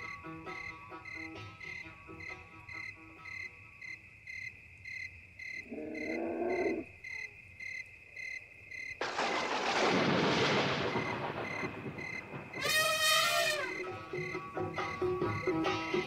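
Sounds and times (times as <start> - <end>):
high insect drone: 0.0 - 9.0, 11.4 - 16.0
cricket chirping: 0.0 - 16.0.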